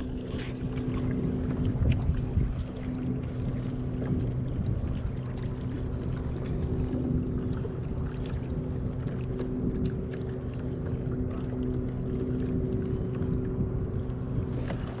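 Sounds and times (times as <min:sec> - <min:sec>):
low mechanical drone: 0:00.0 - 0:15.0
water noise: 0:00.0 - 0:15.0
wind: 0:00.0 - 0:15.0.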